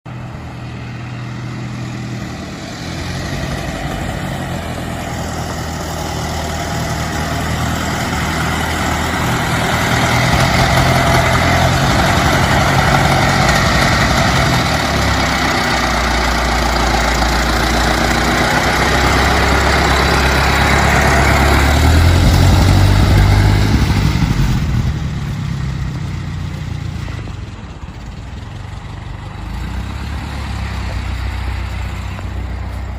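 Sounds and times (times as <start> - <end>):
car engine running: 0.1 - 32.9.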